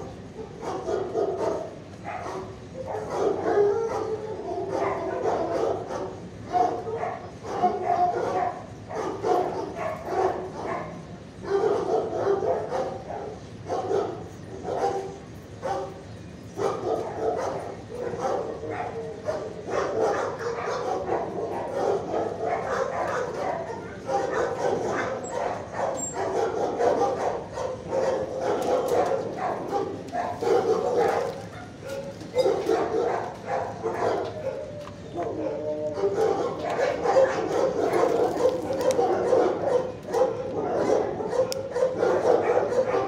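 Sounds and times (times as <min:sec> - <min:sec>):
dogs barking: 0:00.0 - 0:43.0.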